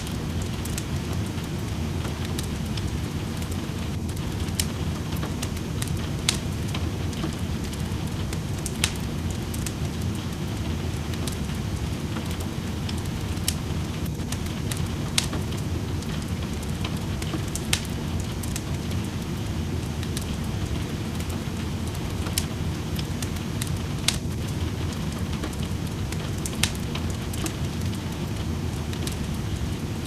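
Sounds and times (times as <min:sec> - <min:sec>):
rain: 0:00.0 - 0:30.0
wood fire crackling and popping: 0:00.0 - 0:30.0.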